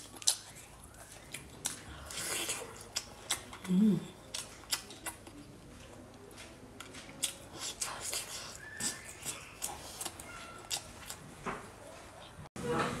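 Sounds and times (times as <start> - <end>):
person chewing: 0.0 - 5.6, 6.2 - 11.2.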